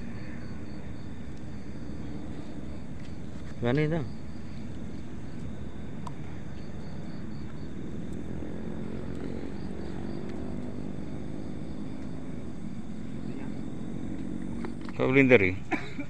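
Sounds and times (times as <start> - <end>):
distant motor drone: 0.0 - 16.0.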